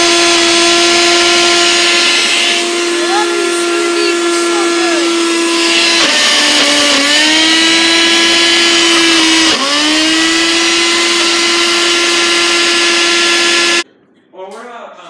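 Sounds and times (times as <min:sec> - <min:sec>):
blender motor whining: 0:00.0 - 0:13.8.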